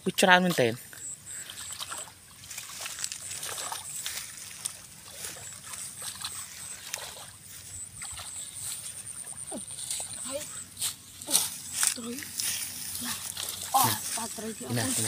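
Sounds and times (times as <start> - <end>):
muddy water sloshing: 0.4 - 15.0.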